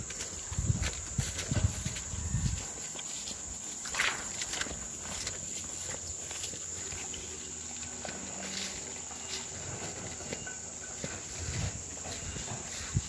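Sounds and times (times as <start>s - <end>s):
footsteps through grass: 0.0s - 13.0s
high-pitched insect drone: 0.0s - 13.0s.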